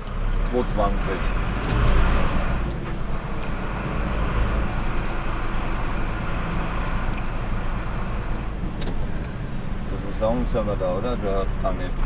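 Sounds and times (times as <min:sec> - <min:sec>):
lorry engine rumble: 0:00.0 - 0:12.0
road noise: 0:00.0 - 0:12.0.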